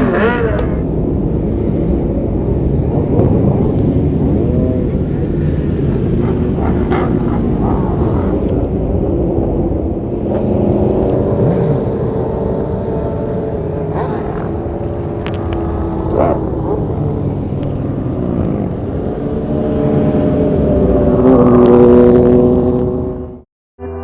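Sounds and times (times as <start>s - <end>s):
motorcycle passing close: 0.0s - 1.7s, 3.2s - 9.4s, 10.2s - 23.4s
motorcycle engines running: 0.0s - 23.4s
motorcycle revving: 0.0s - 23.4s.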